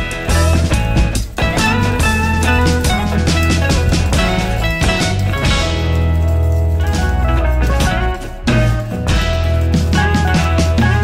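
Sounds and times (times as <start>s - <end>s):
band music with guitar and drums: 0.0s - 11.0s.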